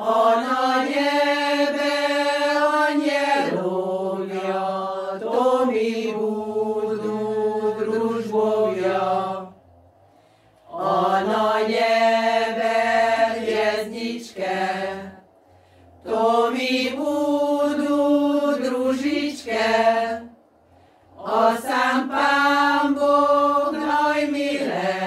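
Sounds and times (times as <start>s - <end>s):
women's choir singing: 0.0s - 9.6s, 10.6s - 15.3s, 16.0s - 20.4s, 21.1s - 25.0s.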